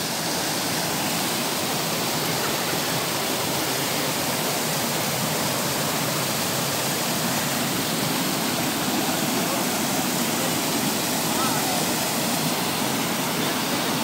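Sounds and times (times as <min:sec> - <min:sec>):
stream rushing over boulders: 0:00.0 - 0:14.0.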